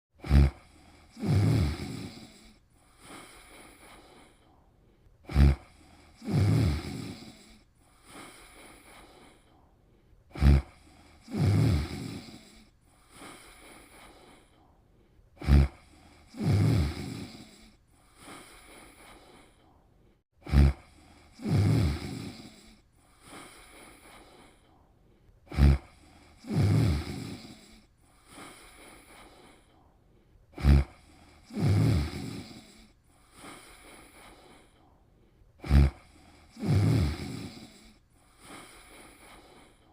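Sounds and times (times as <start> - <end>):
person snoring: 0.2 - 4.6, 5.2 - 9.7, 10.3 - 14.7, 15.4 - 19.8, 20.4 - 24.8, 25.4 - 29.9, 30.5 - 35.0, 35.6 - 39.9.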